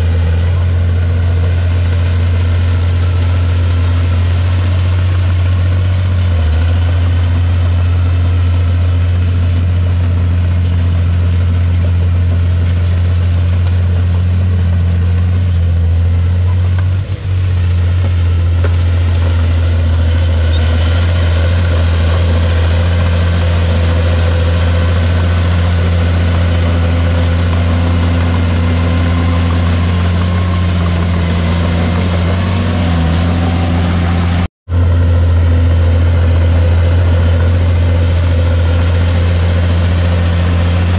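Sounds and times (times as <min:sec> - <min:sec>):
bulldozer diesel engine drone: 0:00.0 - 0:40.9.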